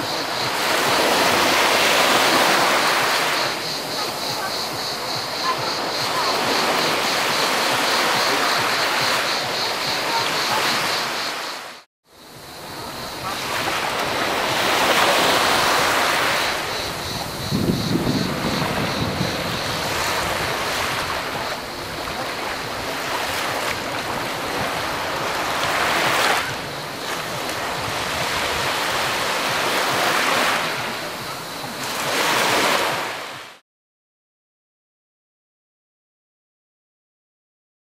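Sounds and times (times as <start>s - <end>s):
cicadas buzzing: 0.0s - 33.5s
waves washing up a sandy beach: 0.0s - 33.6s.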